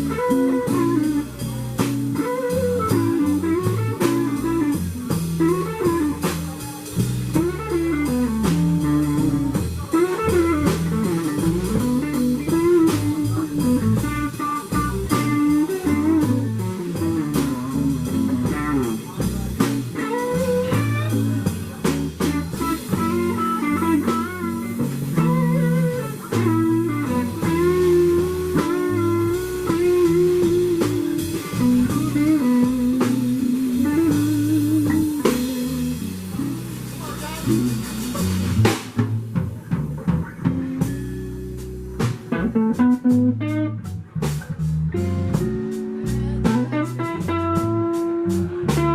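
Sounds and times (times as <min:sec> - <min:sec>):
blues band playing: 0:00.0 - 0:48.9
electric guitar lead bending notes: 0:00.0 - 0:48.9.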